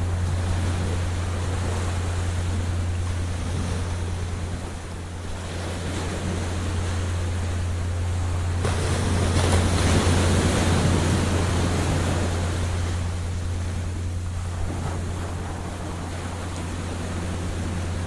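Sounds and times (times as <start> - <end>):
low surf rumble: 0.0 - 18.0
ocean wave breaking: 0.0 - 18.0.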